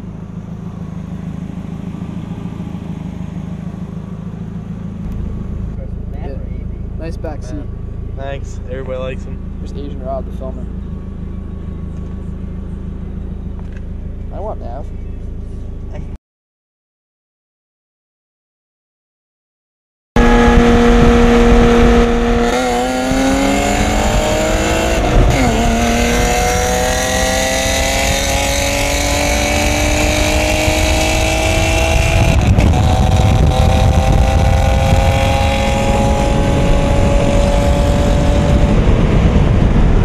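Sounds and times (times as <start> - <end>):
car engines accelerating: 0.0 - 16.2, 20.2 - 40.0
road and wind noise: 0.0 - 16.2, 20.2 - 40.0.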